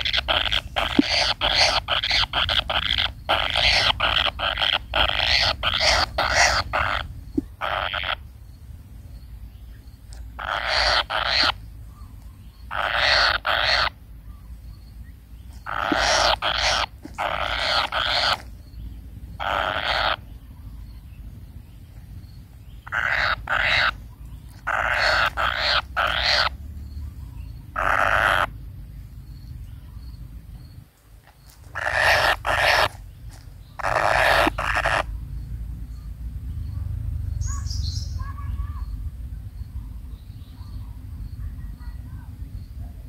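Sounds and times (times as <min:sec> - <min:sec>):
nestlings raspy begging calls: 0:00.0 - 0:08.7, 0:09.4 - 0:36.0, 0:36.6 - 0:43.0.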